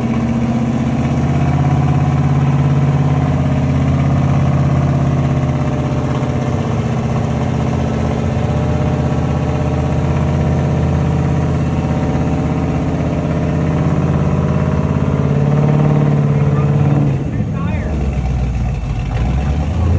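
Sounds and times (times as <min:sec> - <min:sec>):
truck engine under load: 0:00.0 - 0:19.9.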